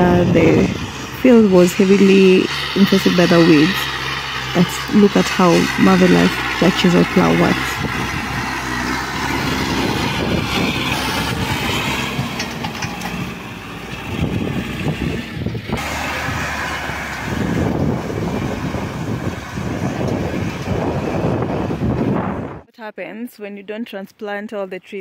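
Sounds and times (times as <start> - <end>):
tractor diesel engine under load: 0.0 - 22.7.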